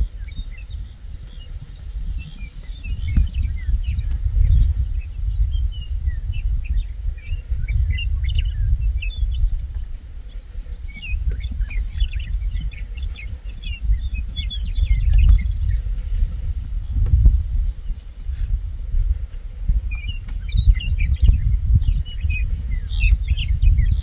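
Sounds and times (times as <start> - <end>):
low rumble: 0.0 - 24.0
small birds chirping: 0.0 - 24.0.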